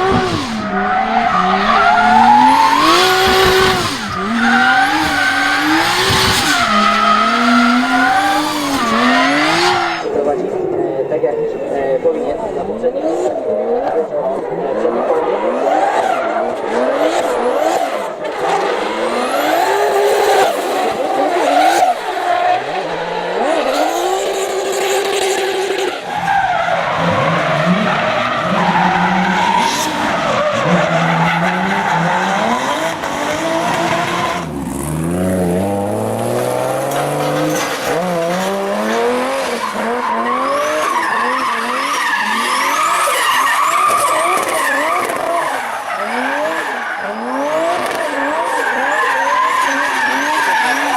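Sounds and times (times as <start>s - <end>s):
tyres squealing and skidding: 0.0s - 12.0s, 14.8s - 50.9s
car engine revving: 0.0s - 50.9s.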